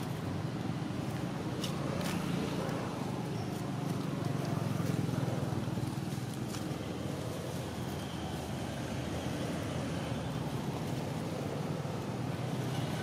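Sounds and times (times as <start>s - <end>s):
dry leaves crackling underfoot: 0.0s - 13.0s.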